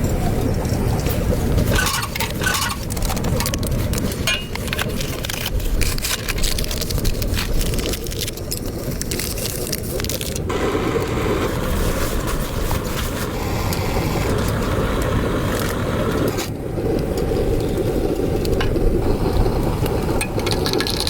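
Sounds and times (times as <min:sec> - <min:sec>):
wind buffeting microphone: 0:00.0 - 0:09.2, 0:10.4 - 0:21.0
crunching and crackling: 0:00.0 - 0:14.5, 0:17.2 - 0:21.0.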